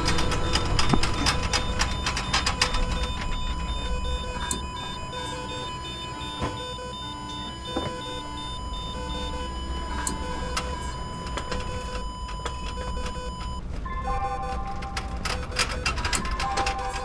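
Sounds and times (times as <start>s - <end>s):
sharp clicks: 0.0s - 13.7s
steady electronic tone: 0.0s - 14.8s
overlapping machine beeps: 0.0s - 17.0s.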